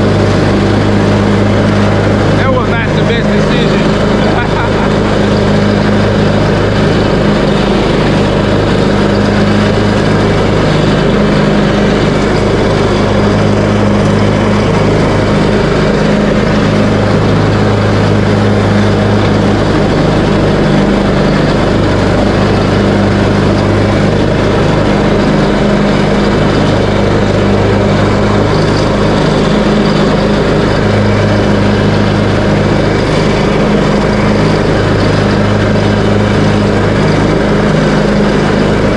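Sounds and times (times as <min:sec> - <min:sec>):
riding lawn mower engine: 0:00.0 - 0:38.9.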